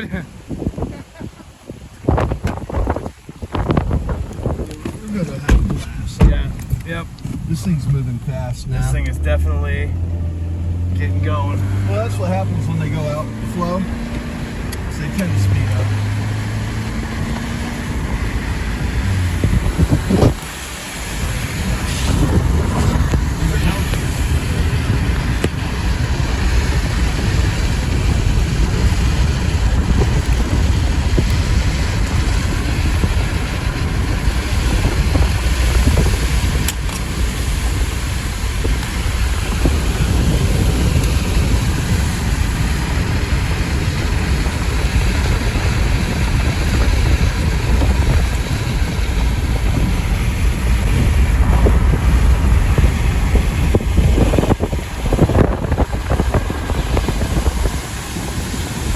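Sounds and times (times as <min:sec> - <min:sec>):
car rumbling on road: 0:00.0 - 0:58.9
wind buffeting microphone: 0:00.0 - 0:58.9.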